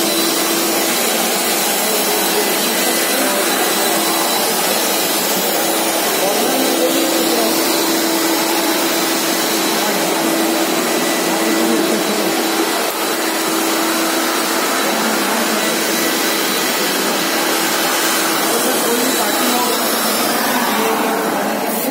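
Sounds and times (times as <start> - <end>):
floor scrubber rushing whine: 0.0 - 21.9.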